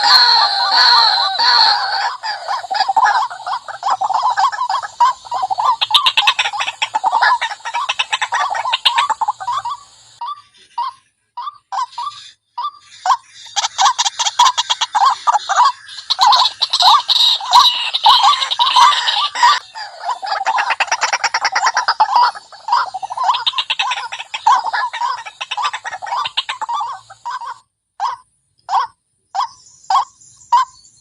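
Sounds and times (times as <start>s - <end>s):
bird harsh repeated calls: 0.0s - 31.0s.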